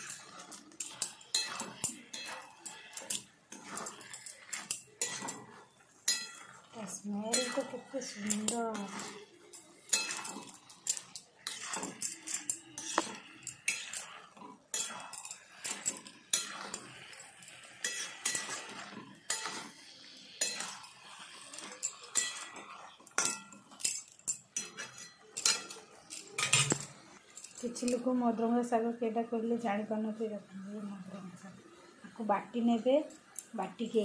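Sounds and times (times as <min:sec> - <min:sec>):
spatula scraping metal frying pan: 0:00.0 - 0:28.2.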